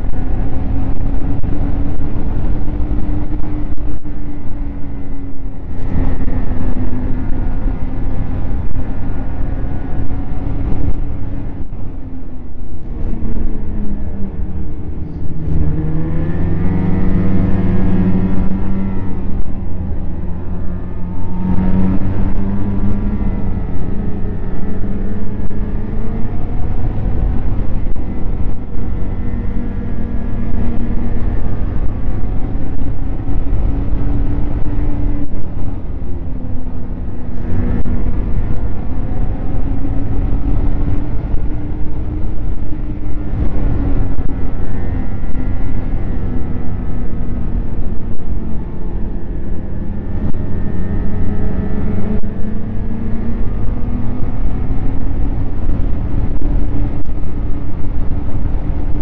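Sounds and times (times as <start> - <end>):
snowmobile engine rumbling: 0.0 - 59.0.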